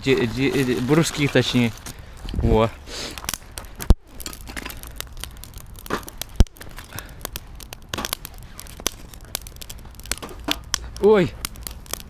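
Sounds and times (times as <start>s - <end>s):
wood fire crackling: 0.0s - 12.0s
sharp pops from fire: 0.3s - 12.0s.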